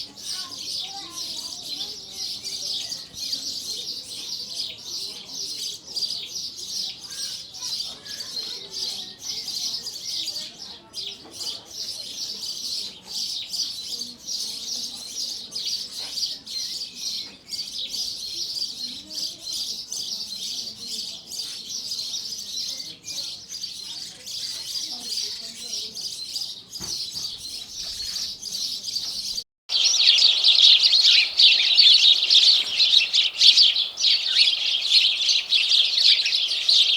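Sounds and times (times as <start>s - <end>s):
flock of sparrows chirping: 0.0s - 36.9s.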